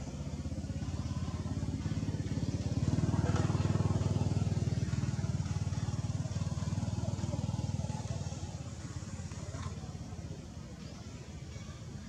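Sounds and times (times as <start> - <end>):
small engine running: 0.0 - 11.7.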